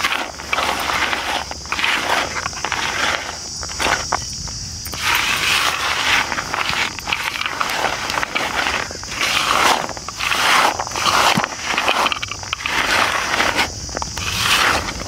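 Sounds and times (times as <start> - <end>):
peanuts rubbed in metal plate: 0.0 - 4.2, 4.9 - 15.0.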